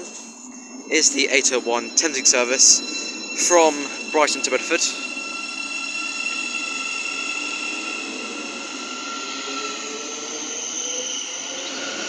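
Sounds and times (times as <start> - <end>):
electric train high whine: 0.0 - 12.0.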